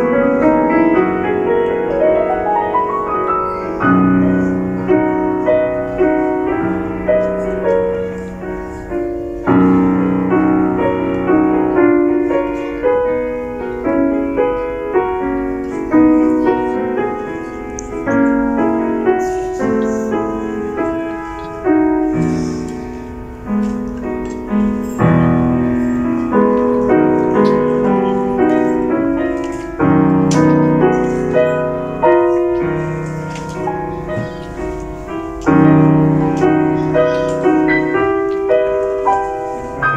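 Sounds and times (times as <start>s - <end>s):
solo grand piano: 0.0s - 39.9s.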